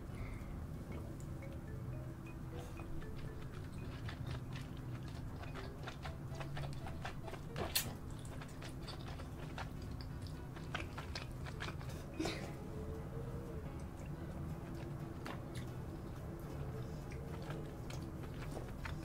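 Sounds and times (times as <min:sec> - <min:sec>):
wet smacking and chewing: 0:02.8 - 0:12.6, 0:13.3 - 0:19.0.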